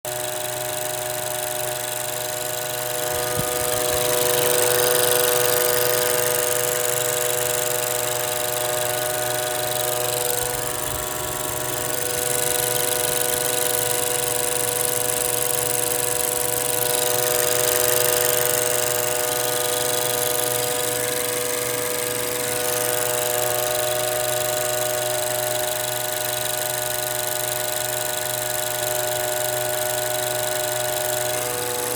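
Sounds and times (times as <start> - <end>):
valve buzzing hum: 0.6 - 31.9.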